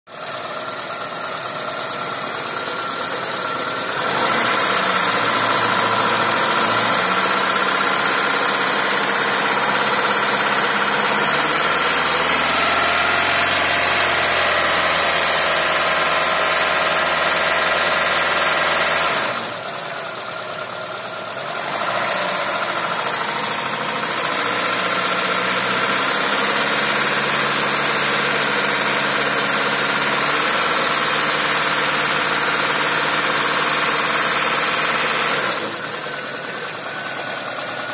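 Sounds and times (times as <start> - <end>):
car engine running with knock: 0.1 - 37.9.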